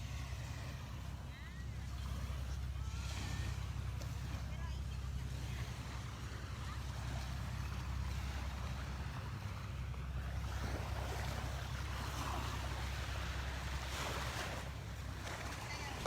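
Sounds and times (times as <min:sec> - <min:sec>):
surf washing on beach: 0:00.0 - 0:16.0.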